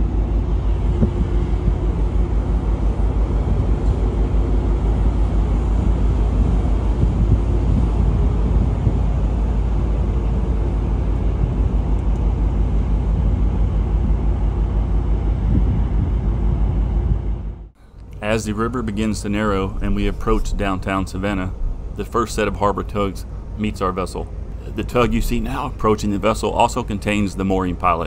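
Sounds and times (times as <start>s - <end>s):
faint hum: 0.0s - 28.0s
ship engine low rumble: 0.0s - 28.0s.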